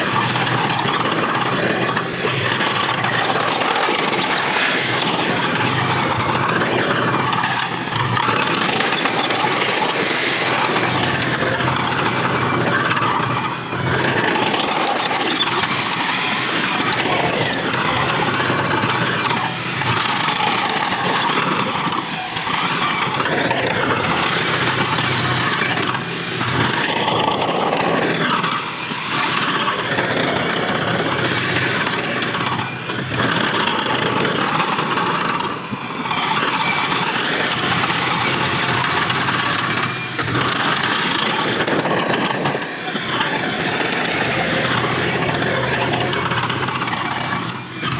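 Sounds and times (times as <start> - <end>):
heavy machinery diesel engine: 0.0 - 47.9
mechanical clatter: 0.0 - 47.9.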